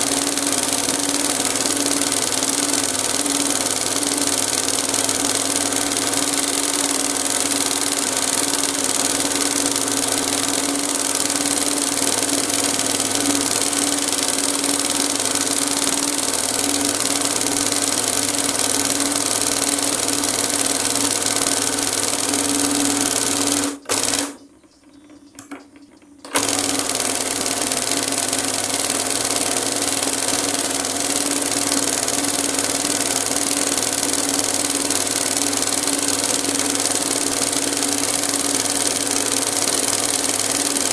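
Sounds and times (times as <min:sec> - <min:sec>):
sewing machine humming and rattling: 0:00.0 - 0:24.4, 0:26.2 - 0:40.9.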